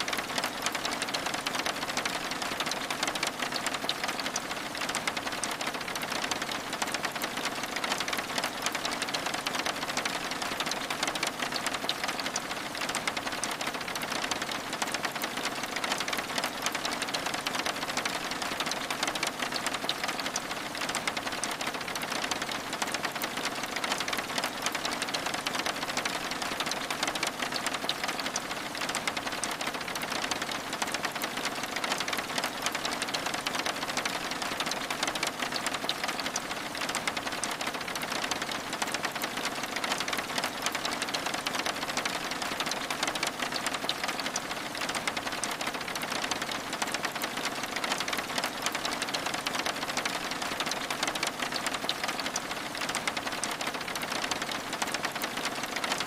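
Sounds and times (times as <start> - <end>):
rain on window glass: 0.0 - 56.0.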